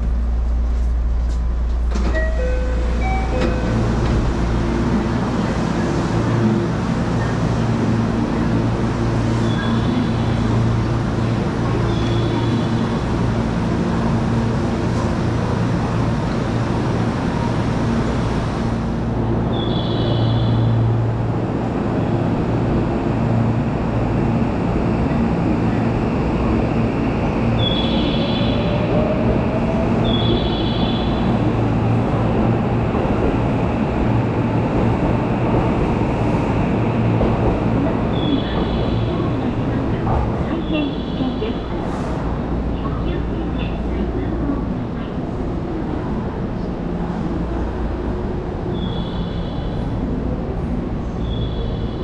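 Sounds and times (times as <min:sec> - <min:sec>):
hum and rumble of trains: 0:00.0 - 0:52.0.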